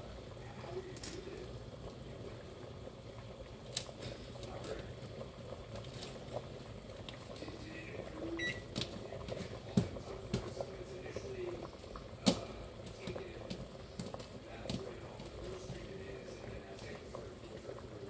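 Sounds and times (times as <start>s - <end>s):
water boiling and bubbling: 0.0s - 18.0s.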